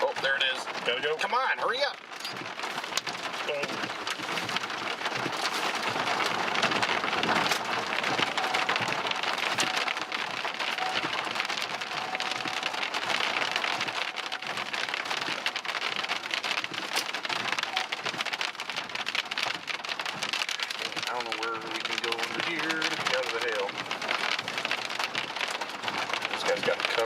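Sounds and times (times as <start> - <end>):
rain and hail falling: 0.0 - 27.0.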